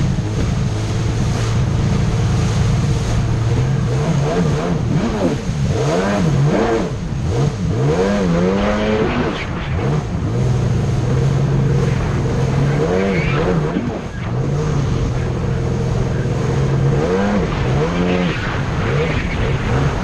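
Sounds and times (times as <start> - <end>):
jet ski engine: 0.0 - 20.0
rushing water: 0.0 - 20.0
wind noise: 0.0 - 20.0.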